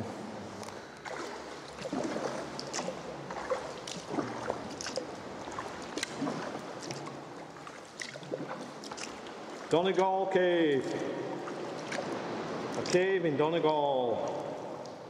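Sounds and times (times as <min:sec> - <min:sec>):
paddle splashes: 0:00.0 - 0:15.0
water lapping and dripping: 0:00.0 - 0:15.0.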